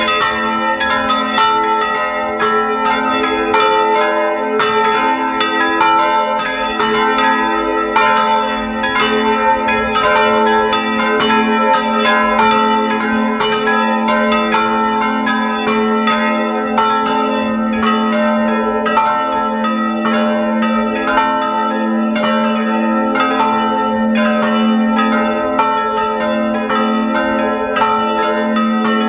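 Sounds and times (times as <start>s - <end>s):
church bells pealing: 0.0s - 29.0s.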